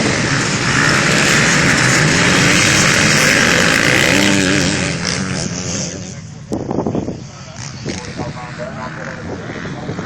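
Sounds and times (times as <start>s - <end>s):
motocross bikes racing past: 0.0s - 10.0s.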